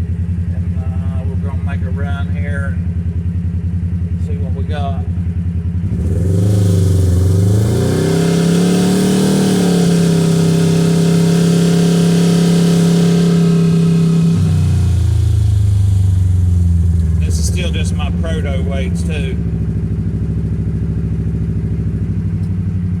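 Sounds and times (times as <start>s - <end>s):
engine idling and revving: 0.0s - 23.0s.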